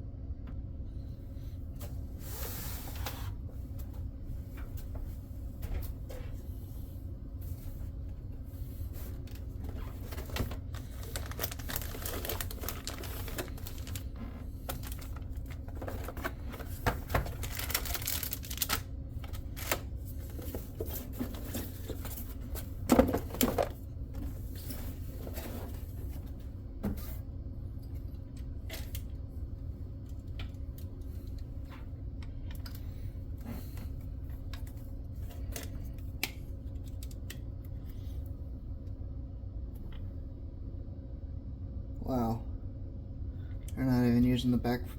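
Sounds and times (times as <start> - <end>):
low hum: 0.0 - 44.9.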